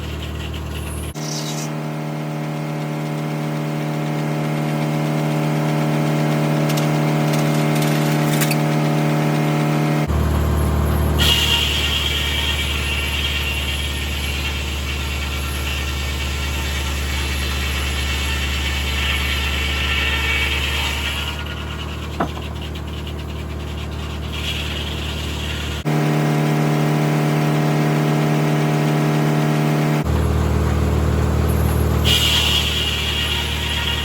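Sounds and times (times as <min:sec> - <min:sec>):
tractor engine driving sawmill: 0:00.0 - 0:34.0.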